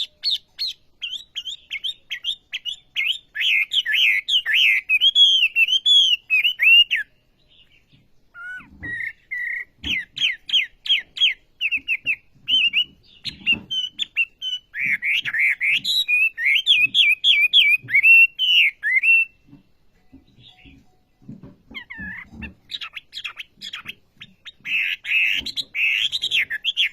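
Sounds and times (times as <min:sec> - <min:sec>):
songbird singing whistled notes: 0:00.0 - 0:26.9.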